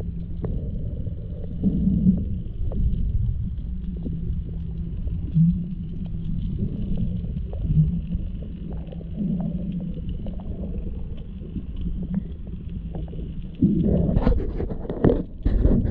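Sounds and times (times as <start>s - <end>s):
muffled underwater rumble: 0.0s - 15.9s
steady low hum: 0.0s - 15.9s.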